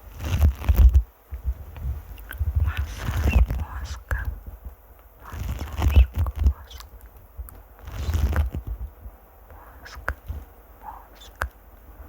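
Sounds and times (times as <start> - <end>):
crackly rustling at microphone: 0.0 - 12.0.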